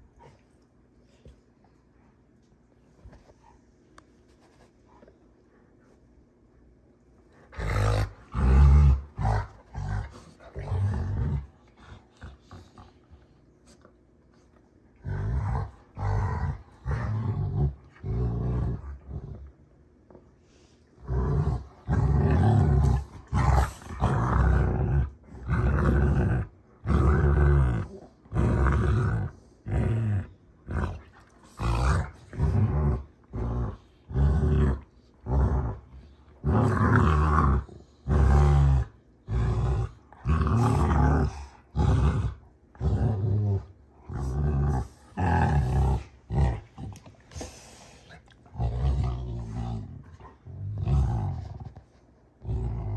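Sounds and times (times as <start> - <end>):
dogs growling: 7.4 - 13.8, 15.0 - 19.6, 21.0 - 52.9.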